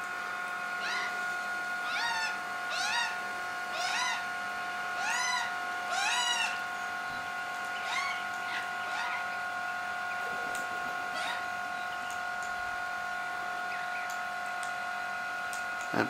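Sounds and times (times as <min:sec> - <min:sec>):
bird whining call: 0:00.6 - 0:14.2.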